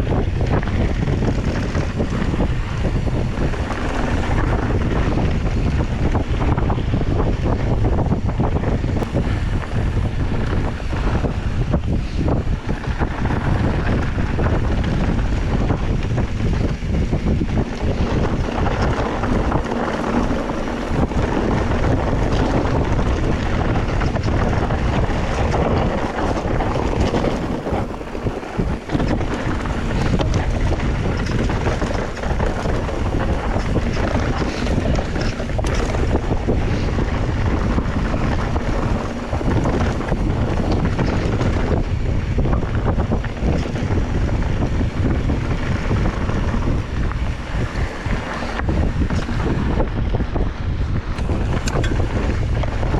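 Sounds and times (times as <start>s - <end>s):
wind blowing across microphone: 0.0s - 52.9s.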